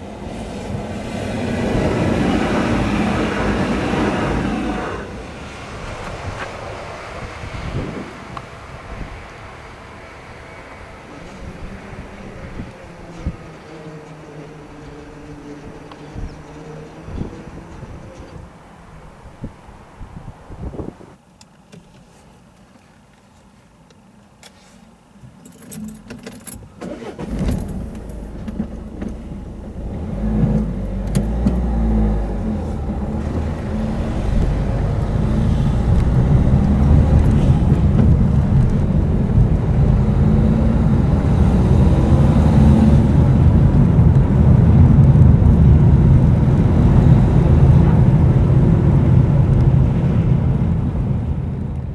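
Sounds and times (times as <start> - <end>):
car engine from inside: 0.0 - 19.6, 26.9 - 51.9
road noise: 0.0 - 51.9.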